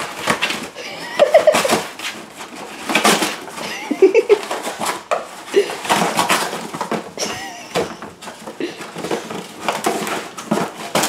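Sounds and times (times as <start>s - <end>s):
dog ripping cardboard: 0.0s - 11.0s.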